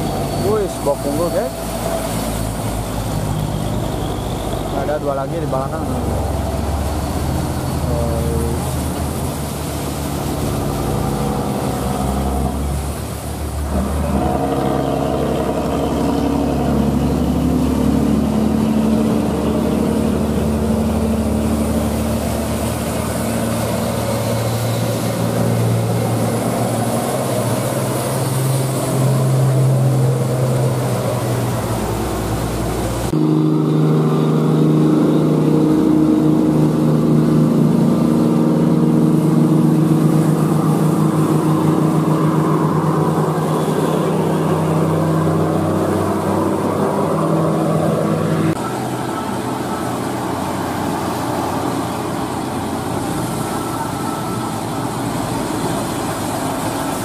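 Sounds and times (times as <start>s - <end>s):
diesel truck engines labouring: 0.0s - 57.0s.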